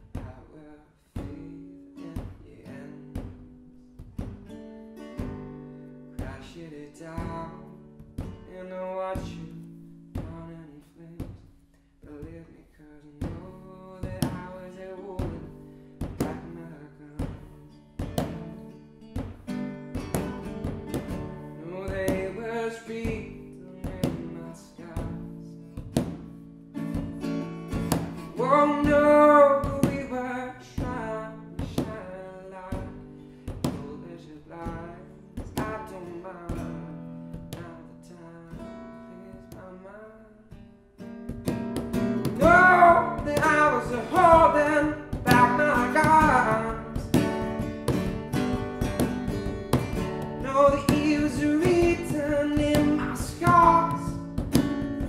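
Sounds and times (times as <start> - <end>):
man singing: 0.0 - 3.4, 6.2 - 18.3, 21.5 - 25.8, 28.1 - 40.6, 42.1 - 48.5, 49.1 - 55.0
strummed acoustic guitar: 0.0 - 55.0.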